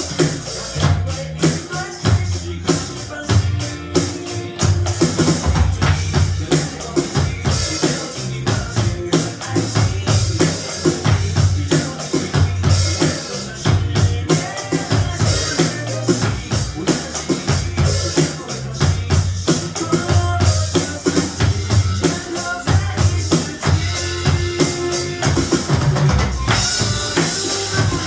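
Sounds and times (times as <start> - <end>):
drum kit playing: 0.0 - 28.0
pop-rock backing track: 0.0 - 28.0.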